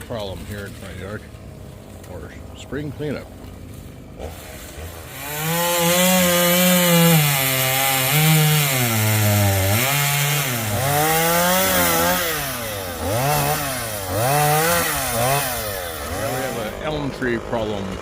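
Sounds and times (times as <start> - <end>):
chainsaw revving cutting wood: 0.0 - 18.0.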